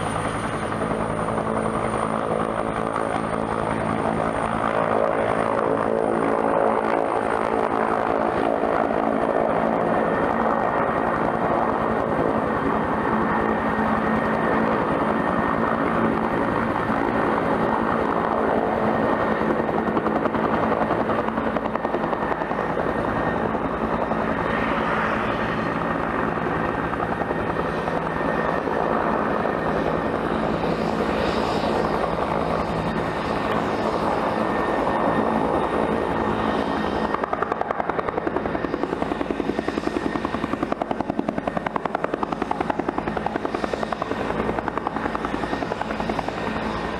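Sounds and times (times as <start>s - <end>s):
helicopter rotor beat: 0.0s - 46.9s
helicopter turbine whine: 0.0s - 46.9s.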